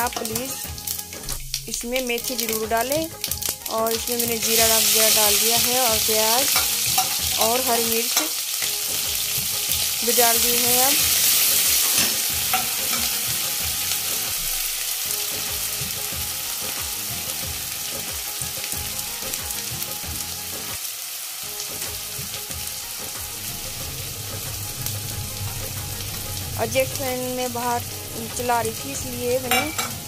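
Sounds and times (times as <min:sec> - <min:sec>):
onion sizzling in hot oil: 0:00.0 - 0:30.0.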